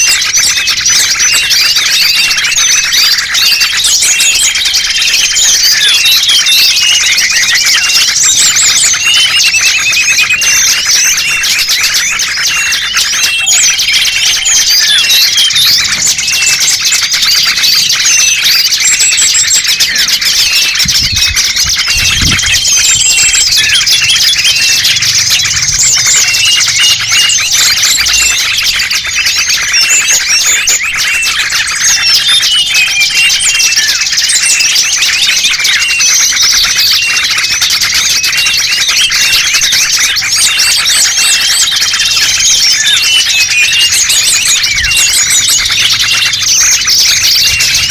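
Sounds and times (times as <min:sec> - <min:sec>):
small songbirds chirping: 0:00.0 - 0:47.9.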